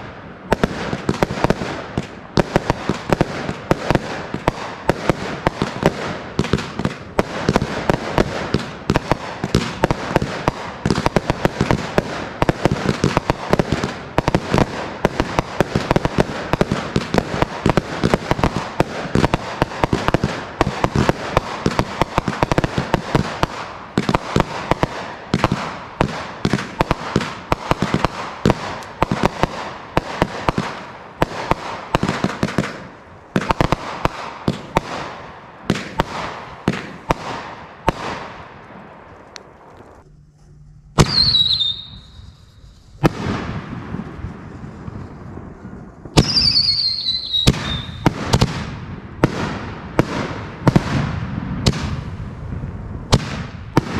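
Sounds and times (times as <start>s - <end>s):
firework bursting reports: 0.0s - 53.9s.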